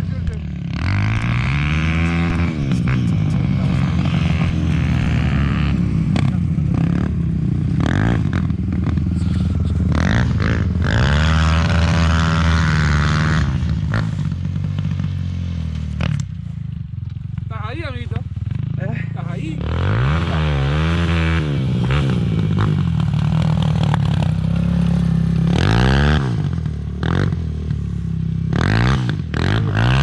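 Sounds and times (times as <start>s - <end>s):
dirt bike engine revving: 0.0s - 16.4s, 17.2s - 30.0s.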